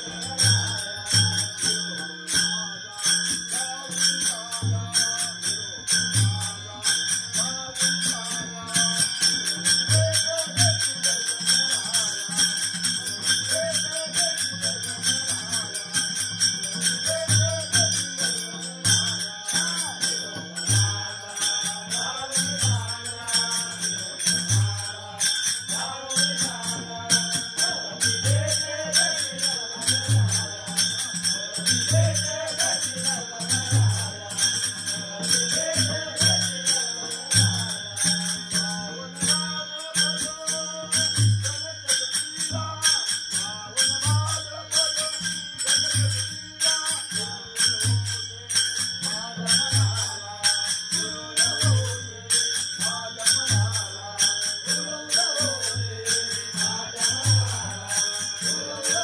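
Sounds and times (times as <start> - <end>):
hand cymbals clashing: 0.0 - 59.0
men singing together: 0.0 - 59.0.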